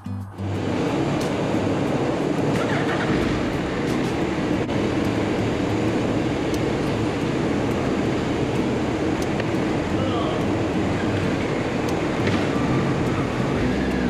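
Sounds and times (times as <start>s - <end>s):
echoing mechanical rumble: 0.0s - 14.0s.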